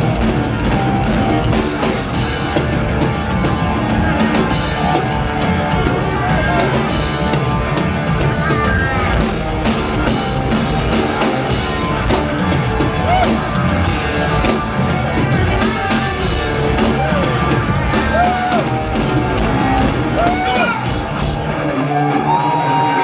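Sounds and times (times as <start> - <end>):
bass guitar: 0.0 - 23.0
drum kit: 0.0 - 23.0
electric guitar: 0.0 - 23.0
keyboards: 0.0 - 23.0.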